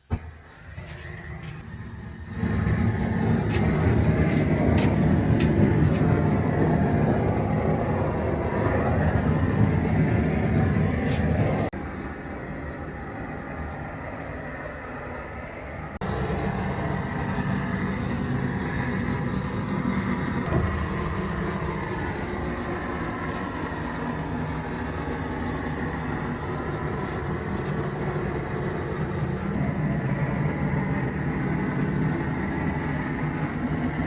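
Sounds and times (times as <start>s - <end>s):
motor running with low rumble: 0.0s - 34.0s.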